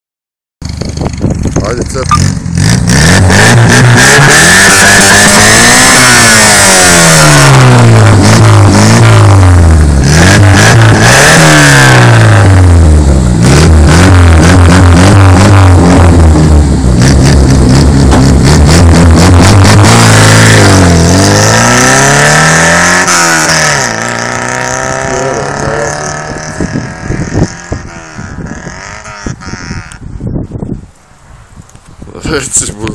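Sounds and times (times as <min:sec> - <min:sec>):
car engine revving: 0:01.7 - 0:30.0.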